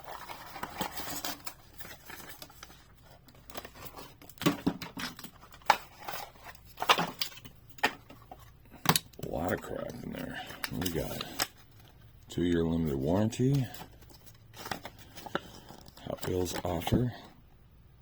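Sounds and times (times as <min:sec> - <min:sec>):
cardboard and paper rustling: 0:00.0 - 0:17.4.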